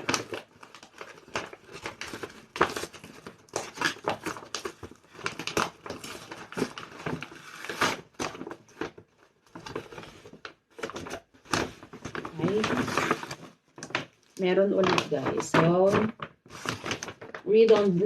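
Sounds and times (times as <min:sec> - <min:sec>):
packaging crinkling: 0:00.0 - 0:18.0
packaging tearing: 0:00.0 - 0:18.0.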